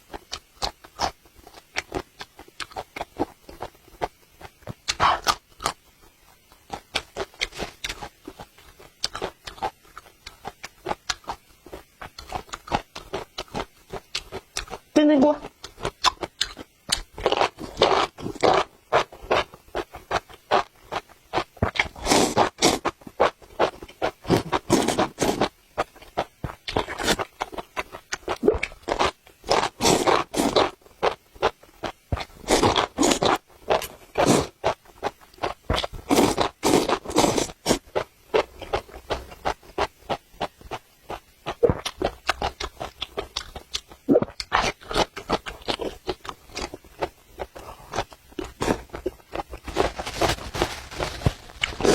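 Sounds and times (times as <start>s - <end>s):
person chewing crunchy peppers: 0.0s - 51.9s.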